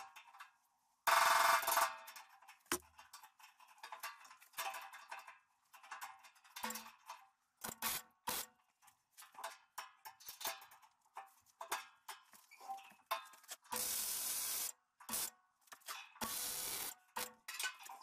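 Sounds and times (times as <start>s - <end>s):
steel parts clicking and clanking: 1.7s - 14.0s, 15.0s - 18.0s.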